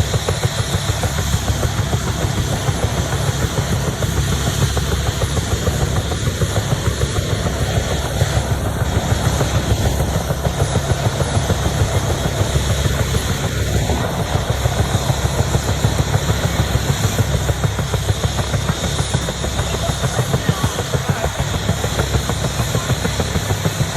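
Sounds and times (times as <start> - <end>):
helicopter rotor thumping: 0.0 - 23.9.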